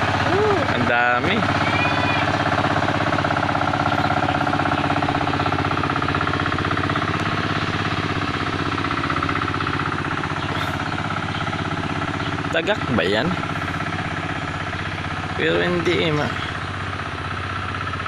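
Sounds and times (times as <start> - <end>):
engine chugging: 0.0 - 18.0.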